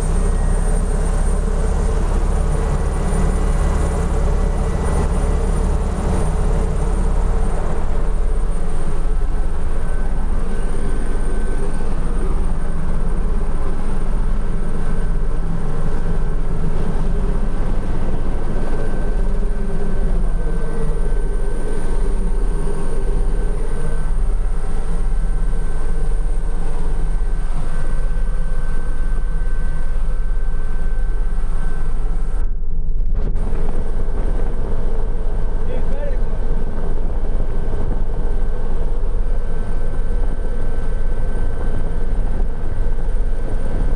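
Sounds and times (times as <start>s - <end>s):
helicopter engine and rotor: 0.0s - 32.6s, 33.3s - 43.9s
thin steady whine: 0.0s - 43.9s.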